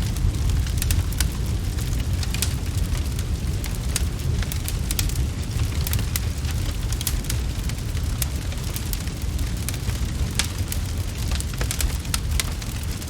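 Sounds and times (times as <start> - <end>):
low rumble: 0.0 - 13.0
wood fire crackling and popping: 0.0 - 13.0.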